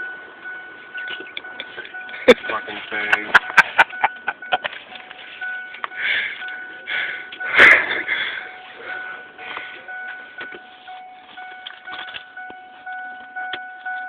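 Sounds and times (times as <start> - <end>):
steady electronic tone: 0.0 - 14.0.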